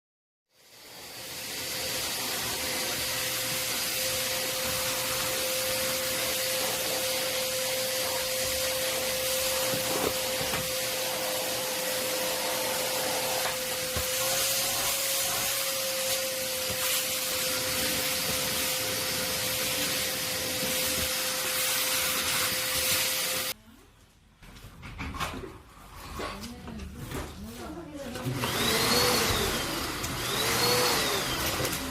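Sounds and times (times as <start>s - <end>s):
vacuum cleaner running: 0.6s - 23.6s, 28.2s - 31.9s.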